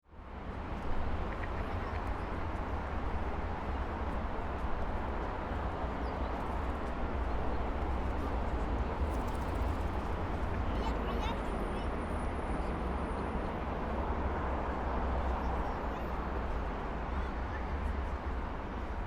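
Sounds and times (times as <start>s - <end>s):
heavy traffic rumble: 0.2s - 19.0s.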